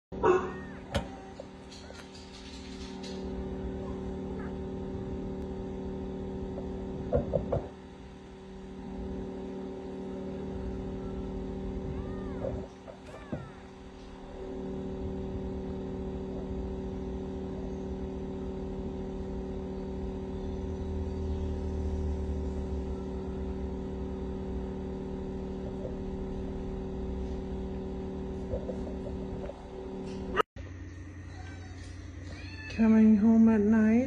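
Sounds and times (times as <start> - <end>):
steady mechanical hum: 0.2 - 34.0.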